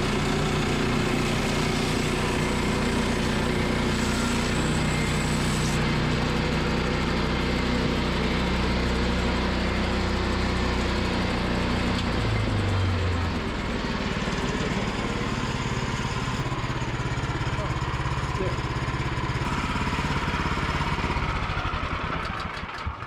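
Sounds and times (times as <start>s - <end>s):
sawmill gas engine running: 0.0s - 23.0s.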